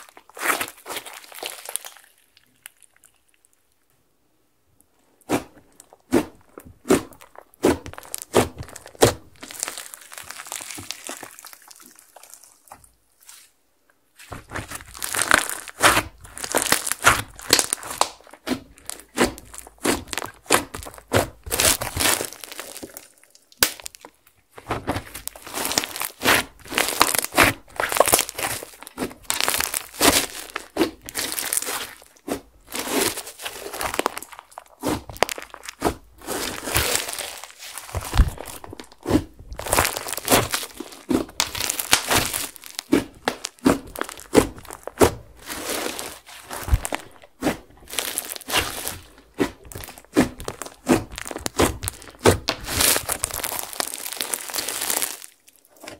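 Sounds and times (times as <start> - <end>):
slime crackling and popping: 0.0 - 3.8, 5.2 - 13.4, 14.2 - 55.9.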